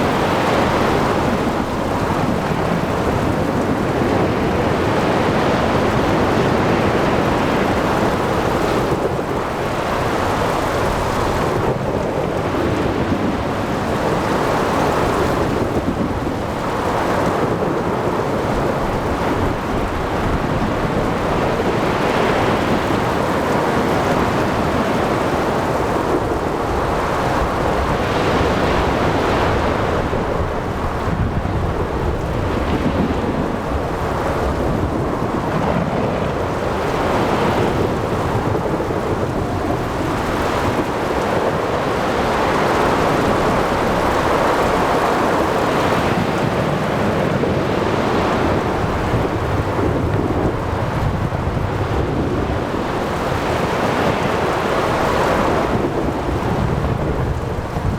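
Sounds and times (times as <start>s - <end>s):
waves surging and breaking: 0.0s - 57.9s
wind: 0.0s - 57.9s.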